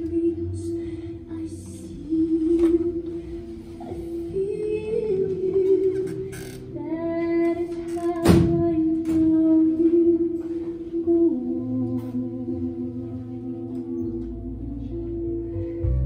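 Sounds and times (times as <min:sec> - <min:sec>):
slow music of held sung notes: 0:00.0 - 0:16.0.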